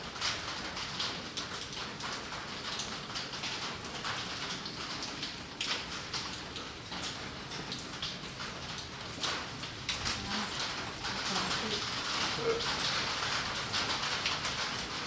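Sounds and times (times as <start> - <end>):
rain dripping on leaves: 0.0 - 15.0.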